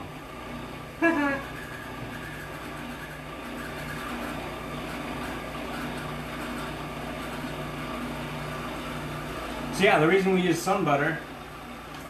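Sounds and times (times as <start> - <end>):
food processor grinding seeds: 0.0 - 10.6.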